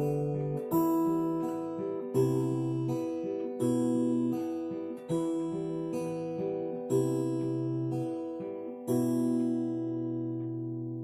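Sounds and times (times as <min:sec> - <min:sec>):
guitar chord ringing: 0:00.0 - 0:11.0.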